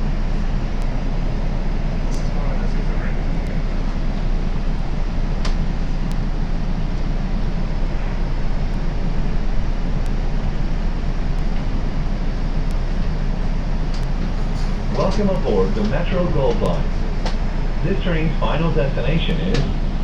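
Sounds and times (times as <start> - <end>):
light rail car rumbling: 0.0 - 20.0.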